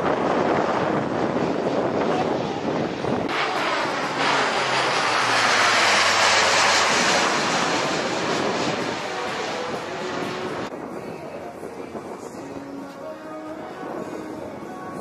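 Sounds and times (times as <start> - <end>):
turboprop plane flying overhead: 0.0 - 15.0.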